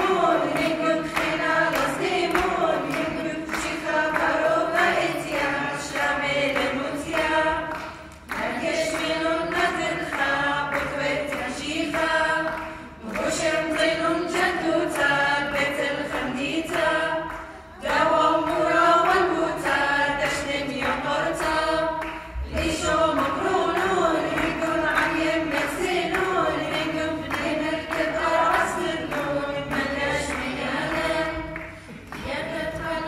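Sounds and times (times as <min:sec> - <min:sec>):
mixed choir singing a cappella hymn: 0:00.0 - 0:33.0.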